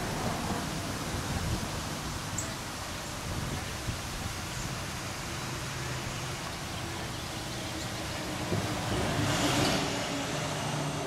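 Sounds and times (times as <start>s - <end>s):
outdoor background hum and hiss: 0.0s - 11.0s
rush of noise: 0.0s - 11.0s.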